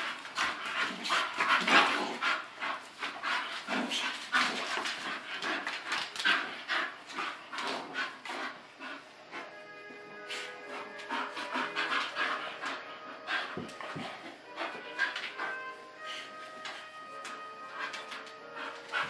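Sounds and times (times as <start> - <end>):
dogs panting and breathing hard: 0.0 - 19.0.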